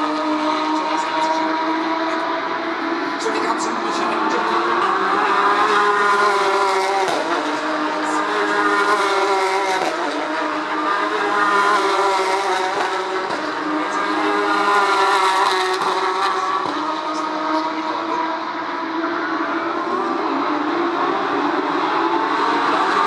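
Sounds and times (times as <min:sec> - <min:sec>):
race car engines accelerating: 0:00.0 - 0:23.0.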